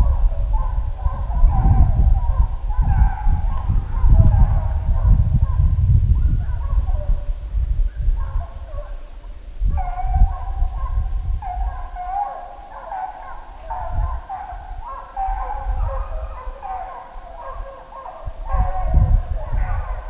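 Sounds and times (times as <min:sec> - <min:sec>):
hounds baying: 0:00.0 - 0:07.4, 0:08.0 - 0:20.0.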